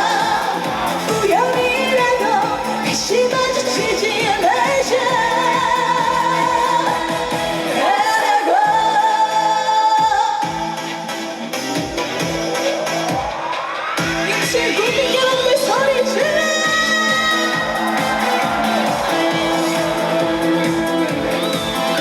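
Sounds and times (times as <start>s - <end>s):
band backing track with kick drum: 0.0s - 7.8s, 9.8s - 22.0s
woman singing: 0.0s - 11.0s, 14.2s - 22.0s.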